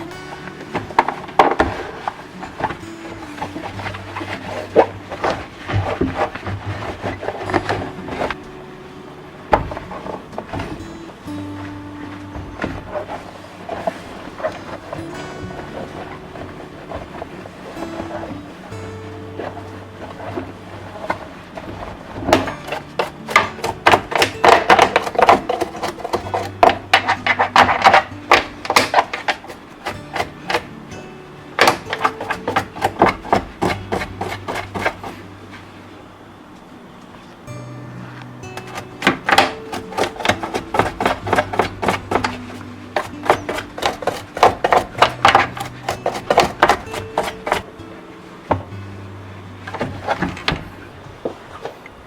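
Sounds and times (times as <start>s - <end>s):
objects being moved: 0.0s - 37.4s, 38.0s - 52.0s
low steady hum: 0.0s - 52.0s.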